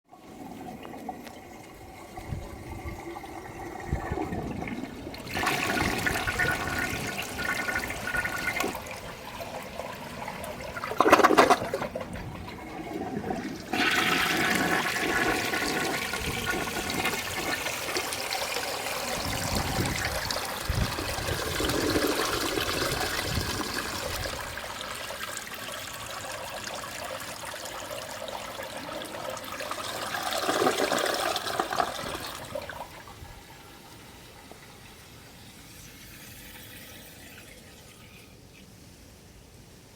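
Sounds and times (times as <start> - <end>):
toilet flushing: 0.1 - 38.5
water running as tank refills: 0.1 - 38.7.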